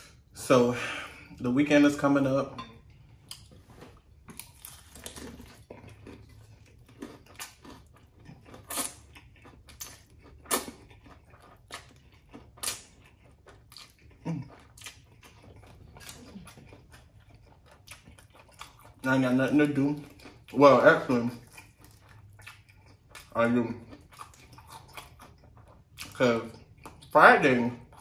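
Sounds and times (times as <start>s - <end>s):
chewing: 2.8s - 28.0s.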